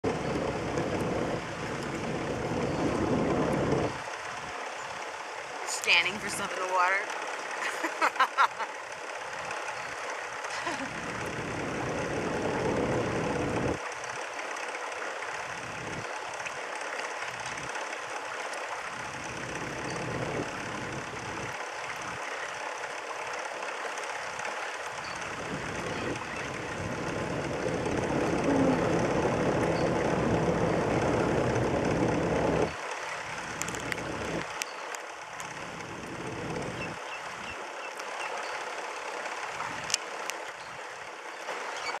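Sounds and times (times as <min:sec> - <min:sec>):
motorboat engine running: 0:00.0 - 0:42.0
water rushing along hull: 0:00.0 - 0:42.0.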